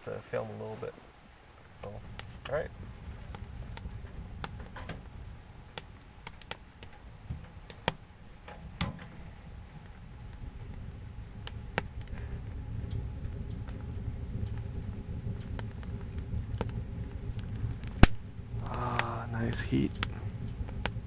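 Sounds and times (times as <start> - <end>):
wood fire crackling in stove: 0.0 - 21.0.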